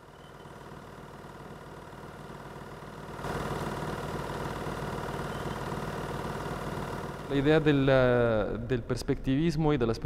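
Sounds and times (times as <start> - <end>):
steady droning hum: 0.0 - 10.0.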